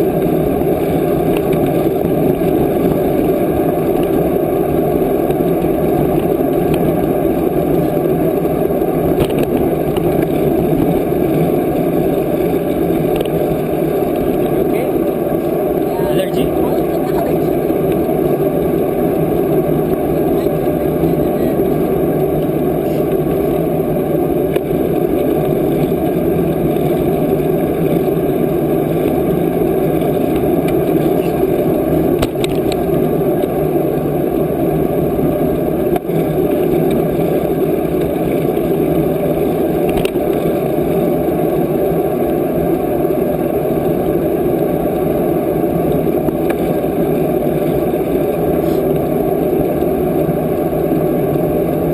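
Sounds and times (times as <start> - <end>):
bicycle road noise: 0.0 - 51.9
wind rushing while cycling: 0.0 - 51.9.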